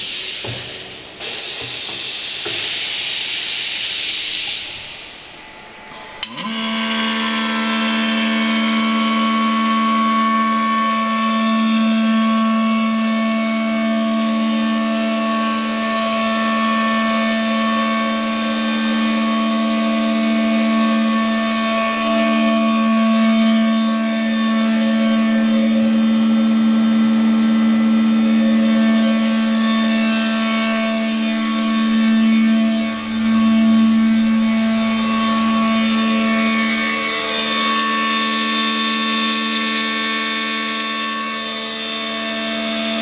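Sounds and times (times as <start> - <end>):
welding machine hum and hiss: 0.0 - 43.0.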